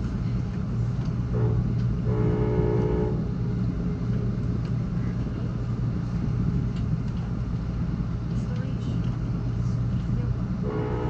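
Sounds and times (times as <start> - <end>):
train rumbling on board: 0.0 - 11.0.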